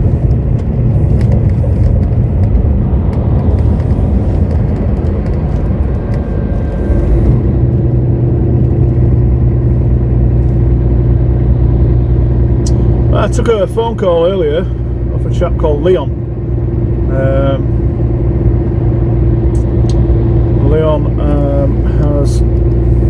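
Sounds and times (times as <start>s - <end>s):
lorry diesel engine rumble: 0.0s - 23.0s
road noise: 0.0s - 23.0s.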